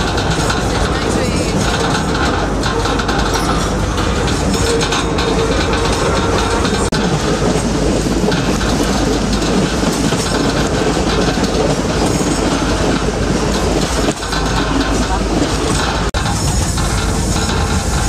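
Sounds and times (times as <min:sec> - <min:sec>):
train carriages rolling over rails: 0:00.0 - 0:18.0.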